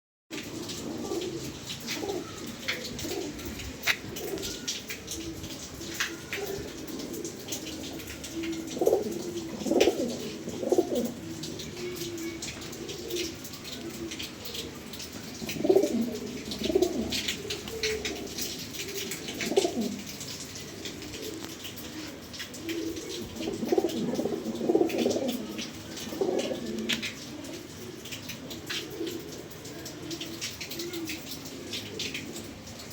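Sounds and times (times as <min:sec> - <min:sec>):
pigeons cooing: 0:00.4 - 0:32.9.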